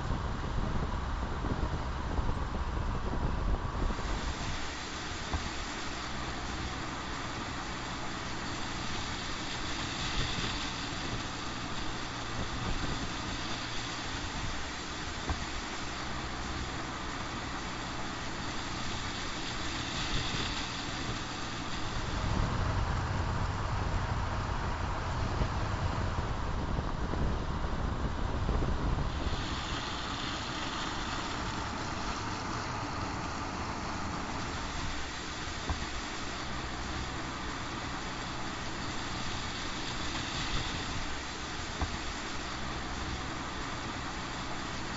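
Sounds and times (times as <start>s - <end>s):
low engine hum: 0.0s - 44.9s
tyre-on-road noise: 0.0s - 44.9s.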